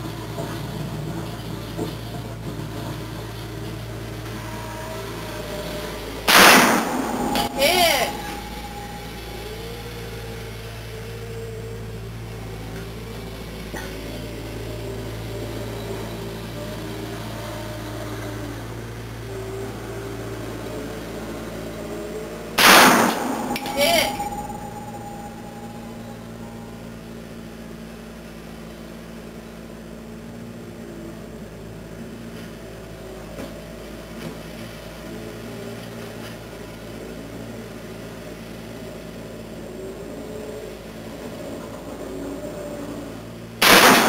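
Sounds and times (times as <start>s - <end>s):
faint wavering tones: 0.0s - 43.6s
low mechanical hum: 0.0s - 44.0s.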